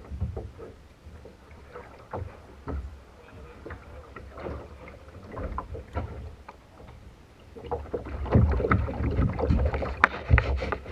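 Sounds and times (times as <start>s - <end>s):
paddle and hull knocks: 0.0s - 10.9s.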